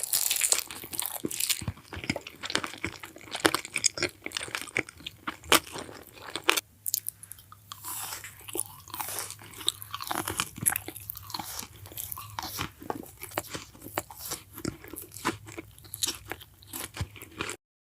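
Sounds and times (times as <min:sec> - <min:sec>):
crunching and chewing crispy food: 0:00.0 - 0:17.6.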